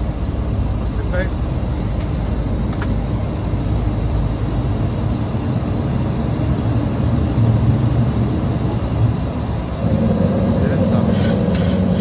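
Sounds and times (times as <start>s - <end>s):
airliner engine and airflow rumble: 0.0s - 12.0s.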